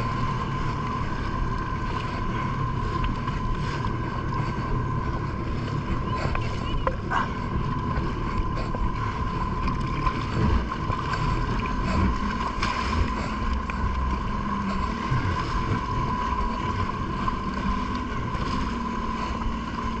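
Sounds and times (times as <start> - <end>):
jet ski engine whining: 0.0 - 20.0.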